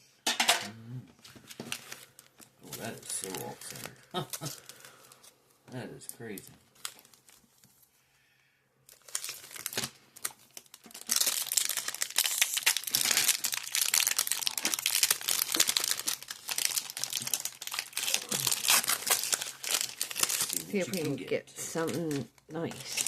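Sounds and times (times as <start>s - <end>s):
foil wrapper crinkling and tearing: 1.4s - 7.8s, 8.9s - 23.0s.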